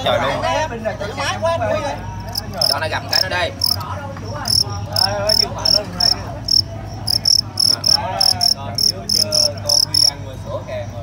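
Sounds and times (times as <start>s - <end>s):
crickets chirping: 1.1s - 11.0s.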